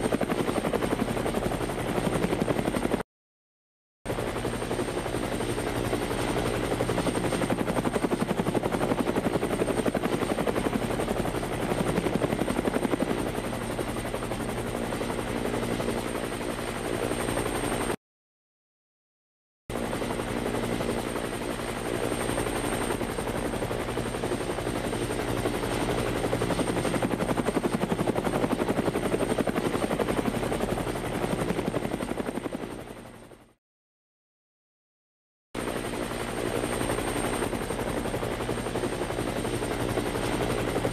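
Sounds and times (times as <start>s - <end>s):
helicopter rotor chop: 0.0s - 3.0s, 4.1s - 18.0s, 19.7s - 33.3s, 35.6s - 40.9s.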